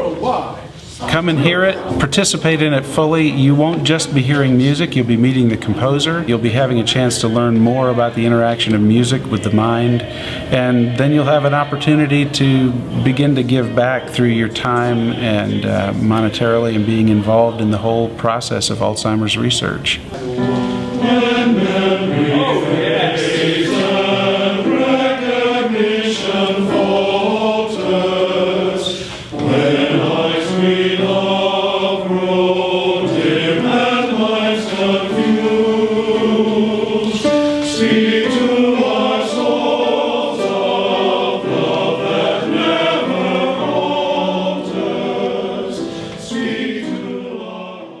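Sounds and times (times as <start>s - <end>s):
choir singing in harmony: 0.0s - 18.1s, 20.2s - 48.0s.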